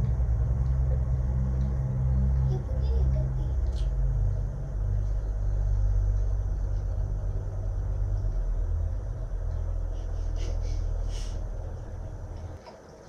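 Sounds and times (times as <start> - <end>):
deep rumbling drone: 0.0 - 12.7.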